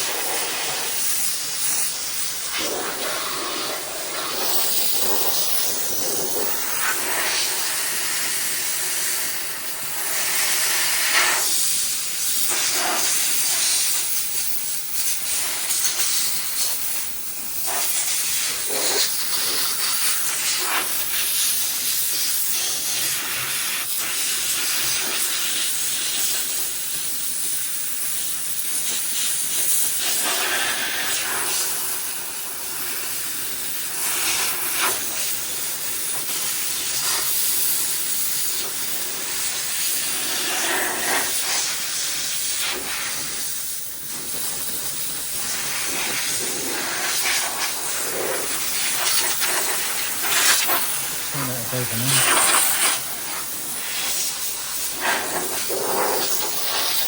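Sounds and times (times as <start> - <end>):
steam cleaner hissing: 0.0 - 57.0.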